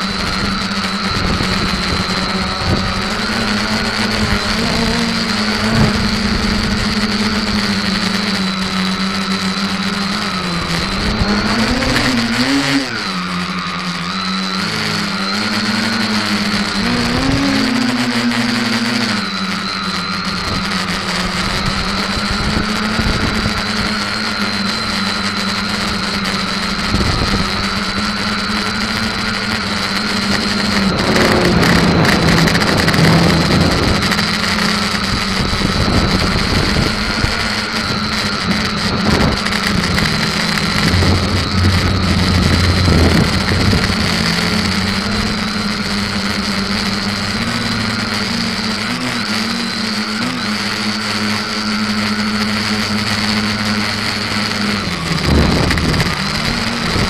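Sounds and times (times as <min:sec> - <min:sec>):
quadcopter motors humming: 0:00.0 - 0:57.0.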